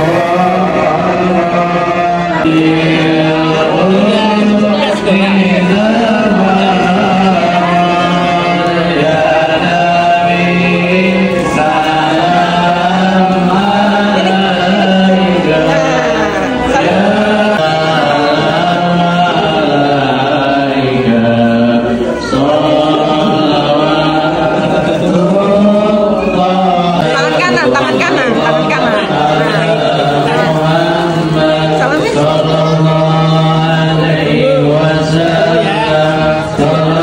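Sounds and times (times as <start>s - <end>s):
man singing into microphone: 0.0s - 37.0s
men chanting: 0.0s - 37.0s.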